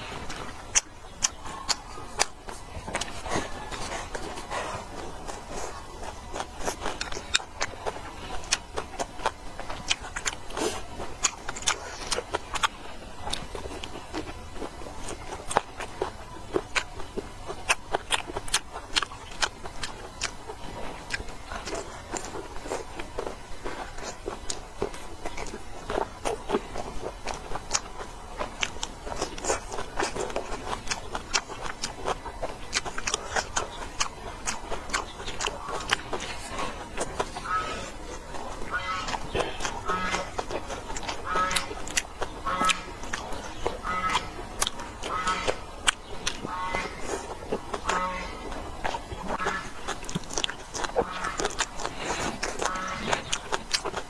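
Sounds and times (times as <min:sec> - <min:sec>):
low steady hum: 0:00.0 - 0:54.0
person chewing: 0:00.0 - 0:54.0.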